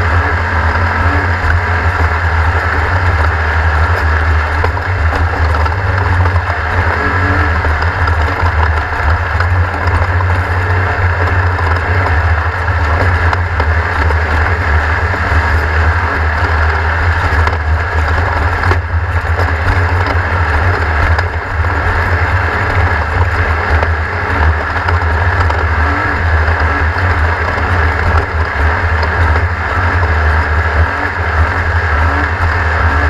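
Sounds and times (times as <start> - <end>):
race car engine rumbling: 0.0 - 33.0.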